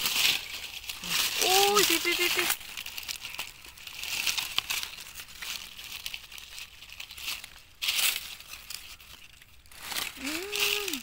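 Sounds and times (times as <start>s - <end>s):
dry leaves rustling: 0.0s - 11.0s.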